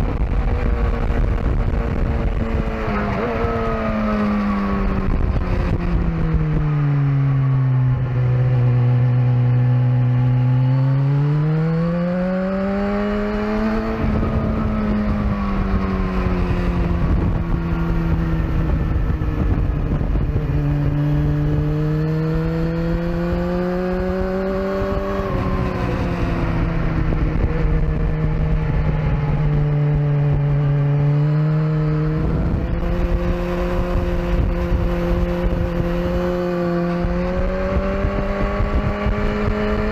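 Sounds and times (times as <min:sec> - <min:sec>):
wind rush on microphone: 0:00.0 - 0:11.2, 0:11.8 - 0:39.9
motorcycle engine running hard: 0:00.0 - 0:39.9.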